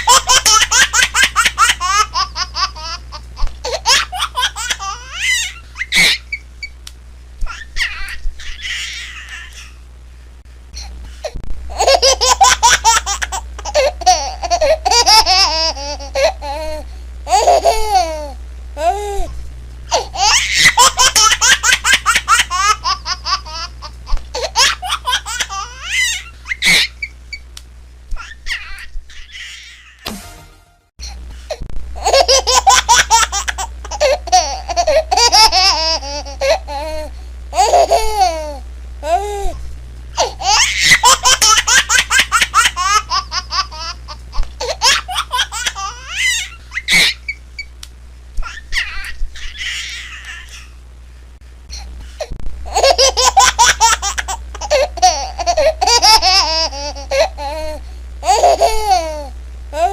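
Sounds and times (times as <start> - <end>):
baby laughing: 0.0 - 6.4, 7.4 - 9.8, 11.7 - 19.0, 19.9 - 27.2, 28.2 - 30.0, 32.0 - 39.3, 40.2 - 47.4, 48.4 - 50.7, 52.7 - 59.9.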